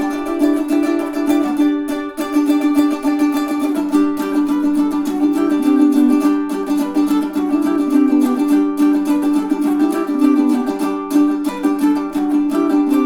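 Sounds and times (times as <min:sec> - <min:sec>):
ukulele strummed in chords: 0:00.0 - 0:13.0.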